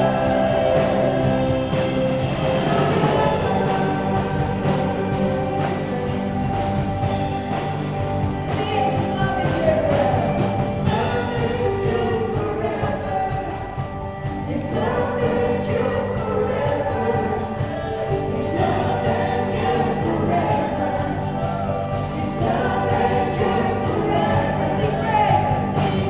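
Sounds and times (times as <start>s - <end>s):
singers singing together: 0.0s - 26.0s
worship band playing: 0.0s - 26.0s.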